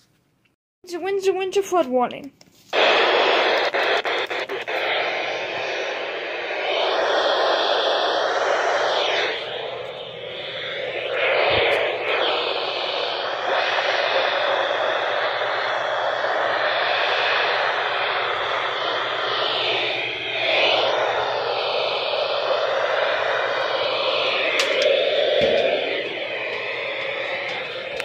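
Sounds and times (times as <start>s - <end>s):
radio static hiss: 2.7s - 28.0s.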